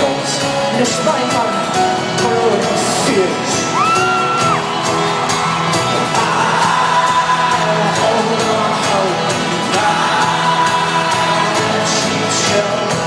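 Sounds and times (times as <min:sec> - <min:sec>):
crowd voices: 0:00.0 - 0:13.0
folk-rock band playing live: 0:00.0 - 0:13.0
crowd whooping: 0:01.8 - 0:12.7.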